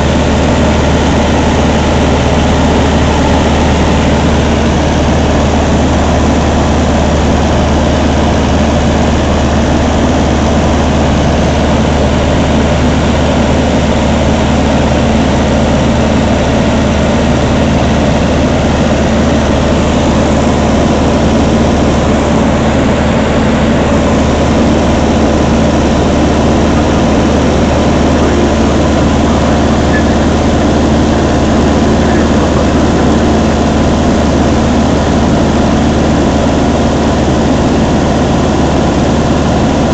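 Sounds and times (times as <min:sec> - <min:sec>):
airplane engine droning in cabin: 0:00.0 - 0:39.9.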